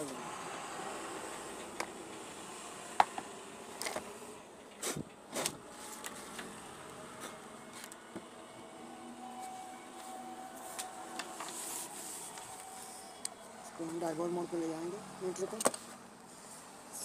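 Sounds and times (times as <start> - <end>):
circuit board set on workbench: 0.0 - 17.0
faint steady hum: 0.0 - 17.0.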